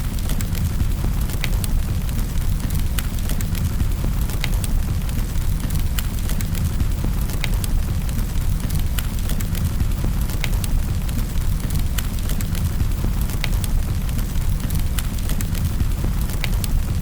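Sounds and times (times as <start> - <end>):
low rumble of flame: 0.0 - 17.0
wood crackling and popping: 0.0 - 17.0.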